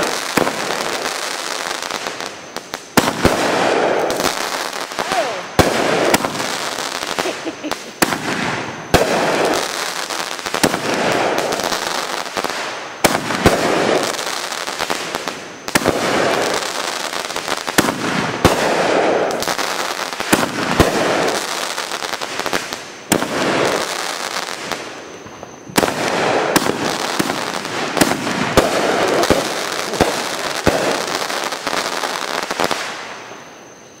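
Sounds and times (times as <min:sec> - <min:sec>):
fireworks bangs: 0:00.0 - 0:33.8
fireworks crackling: 0:00.0 - 0:34.0.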